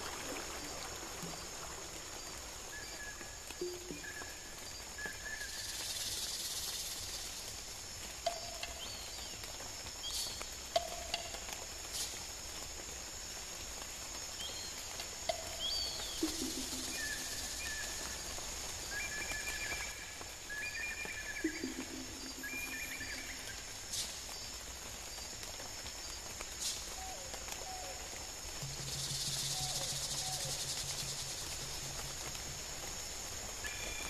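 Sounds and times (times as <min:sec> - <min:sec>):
high-pitched insect chorus: 0:00.3 - 0:34.0.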